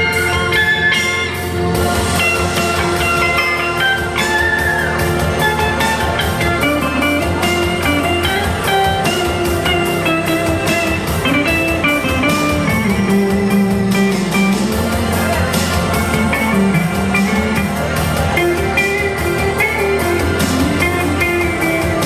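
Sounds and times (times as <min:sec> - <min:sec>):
bass guitar: 0:00.0 - 0:22.0
drum beat: 0:00.0 - 0:22.0
electric guitar melody: 0:00.0 - 0:22.0.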